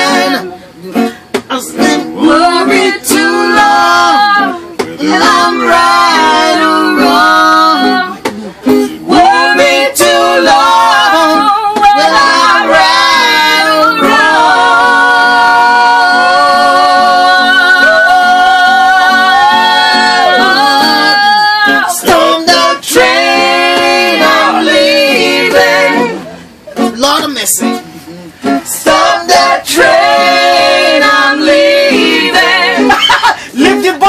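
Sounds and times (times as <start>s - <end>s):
people singing: 0.0s - 26.9s, 28.4s - 34.0s
acoustic guitar: 0.0s - 34.0s.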